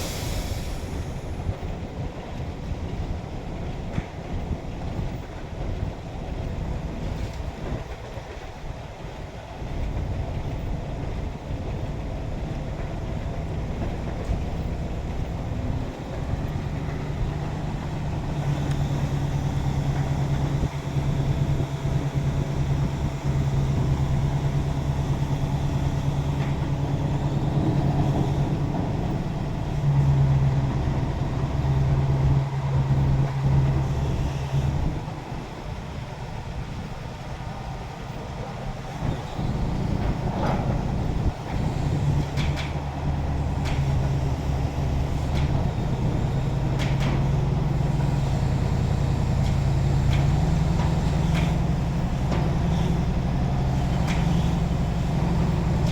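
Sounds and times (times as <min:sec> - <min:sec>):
truck engine droning: 0:09.7 - 0:55.9.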